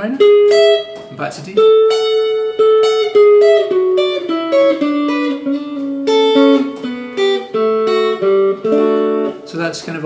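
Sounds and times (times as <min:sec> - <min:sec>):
clean electric guitar picking: 0:00.0 - 0:10.0.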